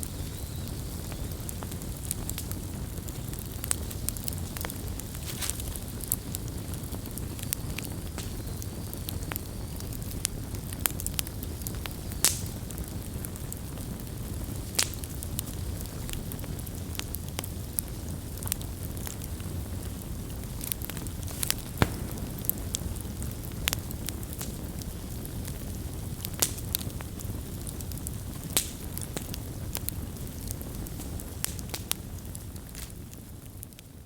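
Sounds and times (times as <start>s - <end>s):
campfire crackles and pops: 0.0s - 34.0s
low rumble of flames: 0.0s - 34.0s.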